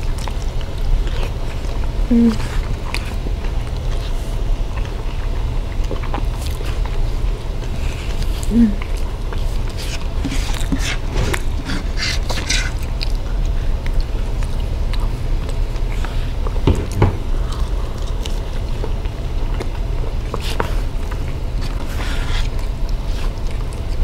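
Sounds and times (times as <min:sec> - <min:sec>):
chewing with wet mouth clicks: 0:00.0 - 0:24.0
lip smacks: 0:00.0 - 0:24.0
steady low hum: 0:00.0 - 0:24.0.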